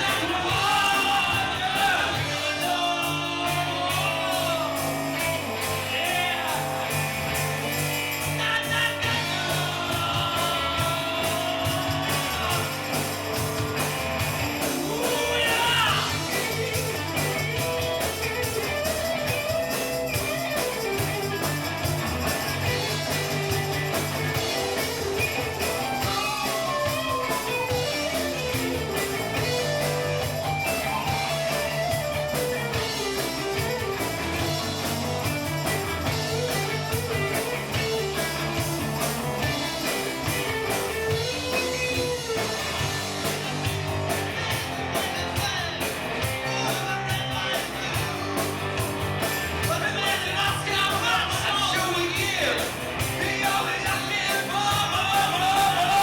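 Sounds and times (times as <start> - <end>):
bass line: 0.0 - 56.0
drums with cymbals: 0.0 - 56.0
electric guitar melody: 0.0 - 56.0.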